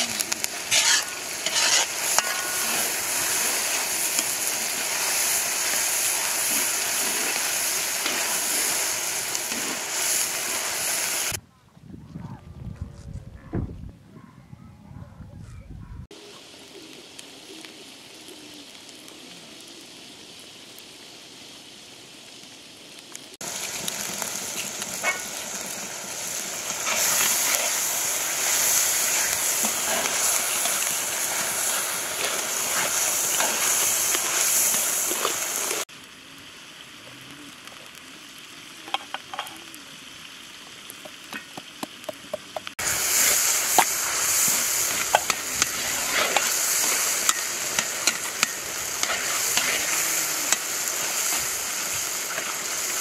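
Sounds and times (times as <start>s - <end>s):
loud steady hiss: 0.0s - 11.4s, 16.1s - 53.0s.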